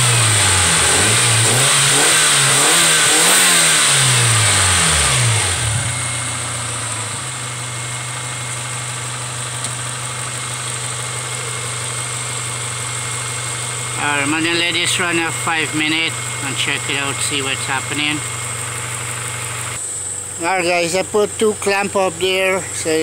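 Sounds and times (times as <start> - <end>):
car engine revving then idling: 0.0 - 23.0.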